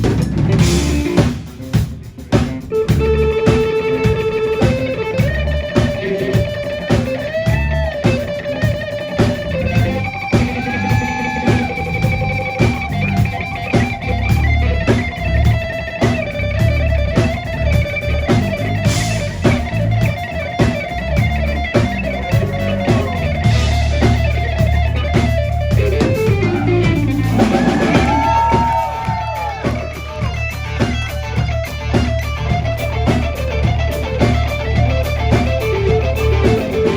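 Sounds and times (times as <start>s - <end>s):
bass guitar: 0.0s - 36.9s
steady drum beat: 0.0s - 36.9s
electric guitar solo: 2.2s - 36.9s.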